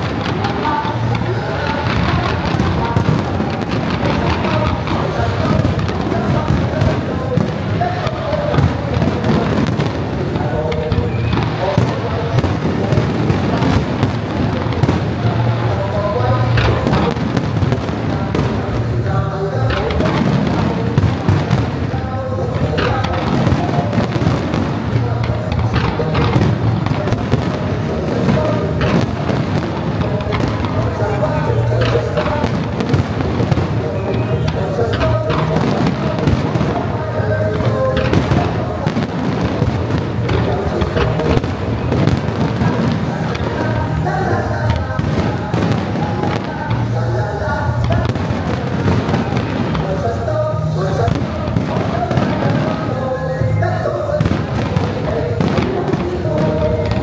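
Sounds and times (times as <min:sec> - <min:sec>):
fireworks crackling and banging: 0:00.0 - 0:57.0
music: 0:00.0 - 0:57.0.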